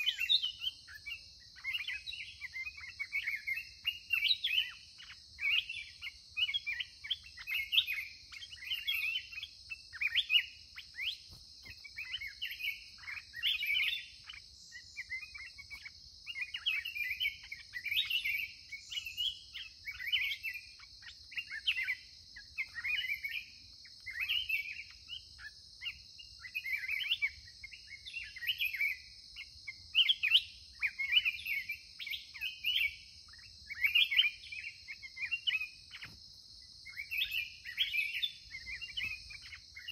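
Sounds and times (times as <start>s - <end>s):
birds singing whistled phrases: 0.0s - 39.9s.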